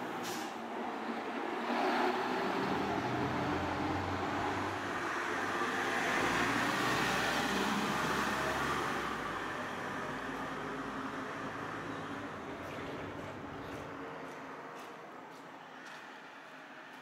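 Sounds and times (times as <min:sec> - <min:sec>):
bus engine rumble: 0:00.0 - 0:16.9
road noise: 0:00.0 - 0:17.0.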